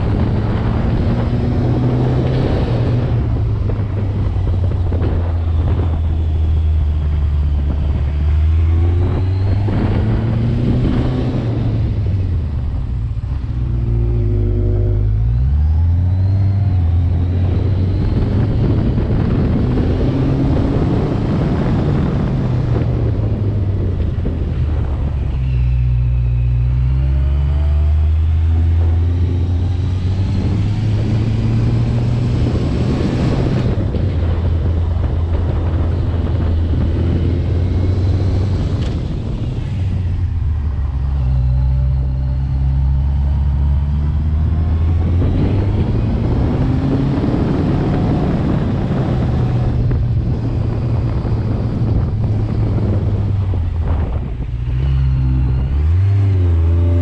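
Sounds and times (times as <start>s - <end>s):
steady travelling noise: 0.0s - 57.0s
vehicle engine revving: 0.0s - 57.0s.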